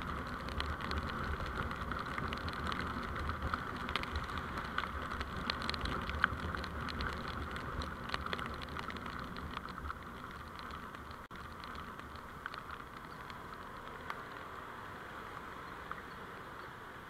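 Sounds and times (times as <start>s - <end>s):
small scattered ticks: 0.0s - 16.8s
vehicle road noise: 0.0s - 17.0s.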